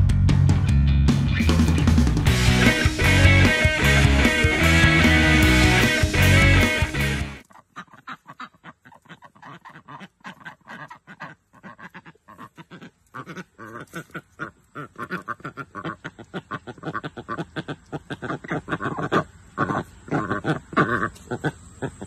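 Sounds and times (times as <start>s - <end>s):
ducks quacking: 1.4s - 22.0s.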